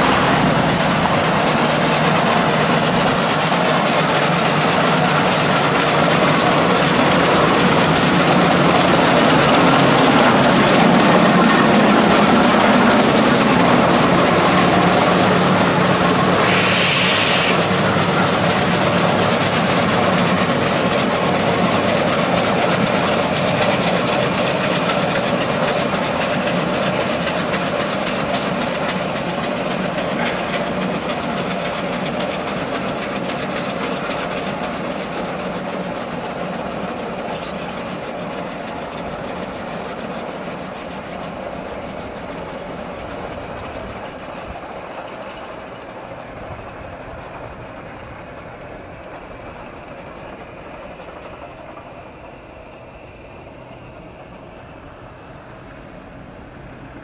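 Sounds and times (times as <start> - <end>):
clatter of locomotive motion: 0.0 - 57.0
steam hiss: 0.0 - 57.0
steam locomotive exhaust beats: 0.0 - 57.0.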